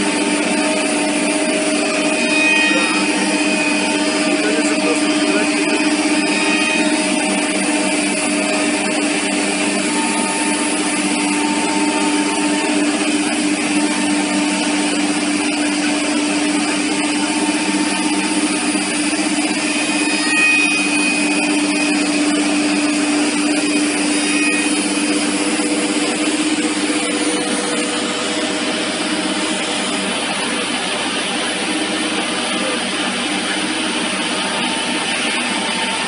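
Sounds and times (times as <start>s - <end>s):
dust extraction: 0.0s - 36.0s
router spindle hum and cutting: 0.0s - 36.0s.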